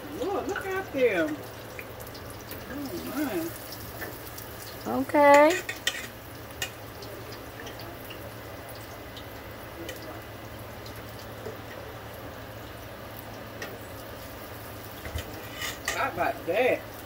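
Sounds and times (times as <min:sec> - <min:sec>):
chicken wings sizzling in oil: 0:00.0 - 0:17.0.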